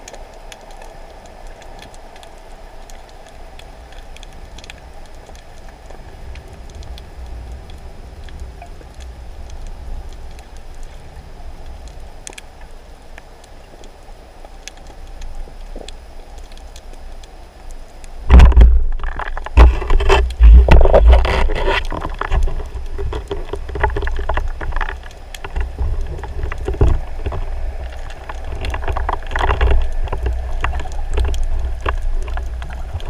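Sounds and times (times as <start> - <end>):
sharp clicks and crackles: 0.0 - 33.0
underwater rumble of water: 0.0 - 33.0.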